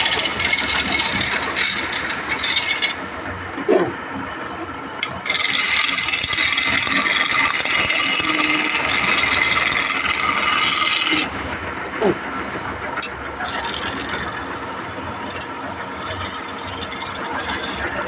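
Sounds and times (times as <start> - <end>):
rattling: 0.0 - 18.0
woodworking power tool running: 0.0 - 18.0.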